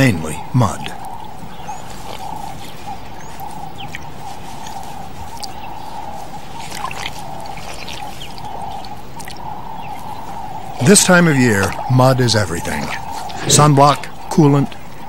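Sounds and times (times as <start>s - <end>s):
wet mud squelches and drips: 0.9s - 15.0s.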